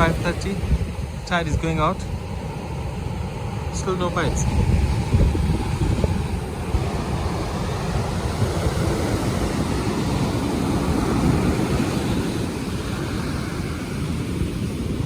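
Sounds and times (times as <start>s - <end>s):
surf washing on beach: 0.0s - 15.0s
wind on microphone: 0.0s - 15.0s.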